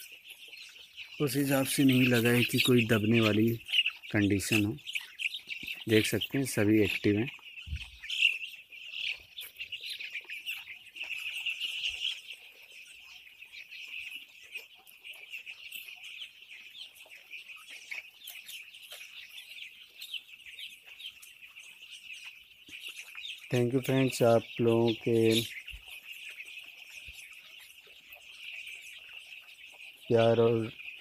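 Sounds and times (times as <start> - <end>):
chicks peeping chorus: 0.0 - 31.0.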